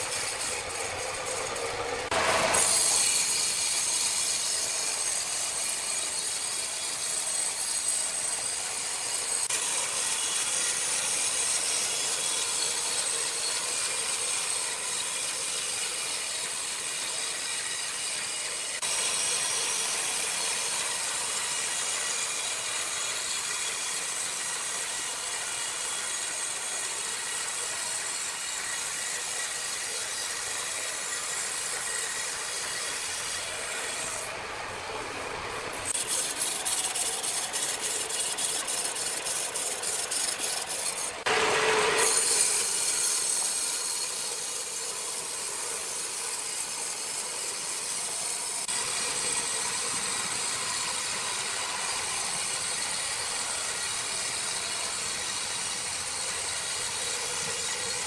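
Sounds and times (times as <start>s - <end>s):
saw cutting through wood: 0.0s - 58.0s
sawmill machinery running: 0.0s - 58.0s.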